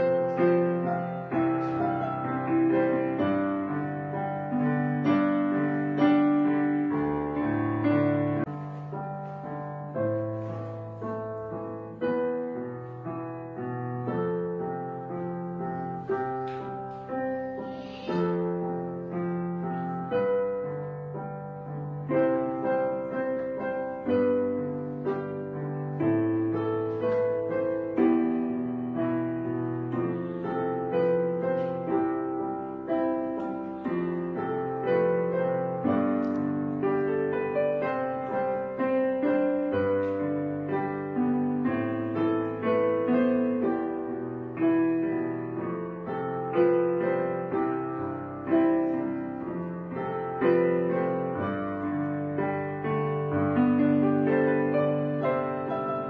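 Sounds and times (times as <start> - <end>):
slow piano music: 0.0 - 56.0.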